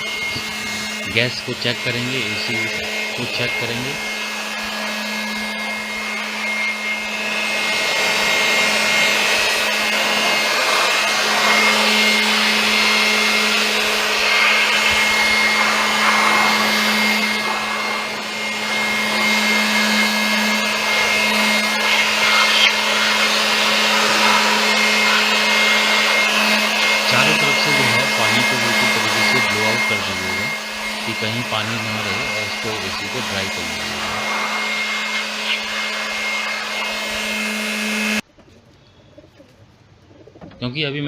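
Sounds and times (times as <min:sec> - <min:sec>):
electric air blower running: 0:00.0 - 0:38.2.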